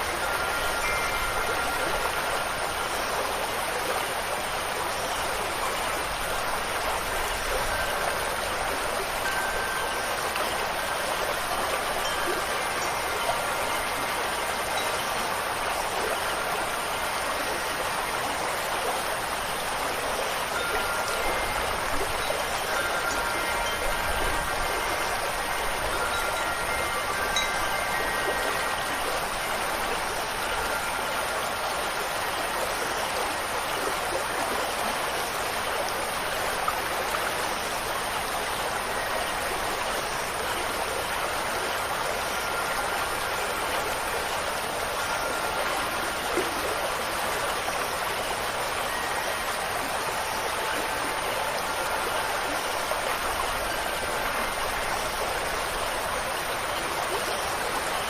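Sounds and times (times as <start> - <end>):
wind chimes ringing: 0.0 - 34.6, 37.5 - 58.0
flowing water rushing: 0.0 - 58.0.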